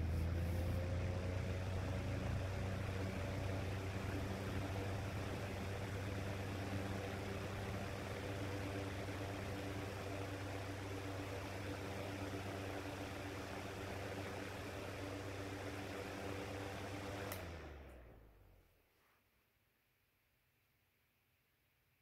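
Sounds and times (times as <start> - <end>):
electric fan motor humming: 0.0 - 18.5.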